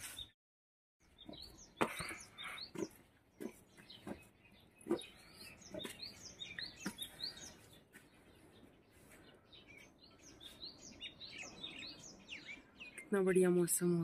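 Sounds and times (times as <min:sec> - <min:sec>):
small birds chirping: 0:00.0 - 0:00.4, 0:01.0 - 0:14.0.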